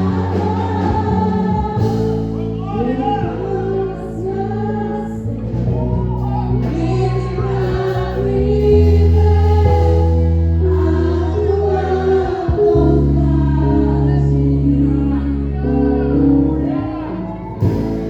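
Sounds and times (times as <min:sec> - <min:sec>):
choir singing gospel: 0:00.0 - 0:18.0
sustained chords with deep bass: 0:00.0 - 0:18.0.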